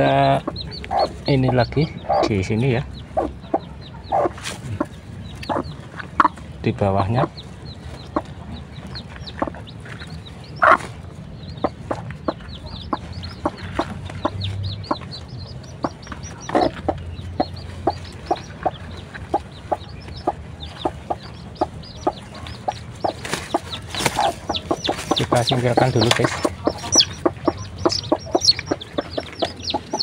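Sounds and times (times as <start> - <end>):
chicks peeping: 0.0 - 30.0
hen clucking: 0.0 - 30.0.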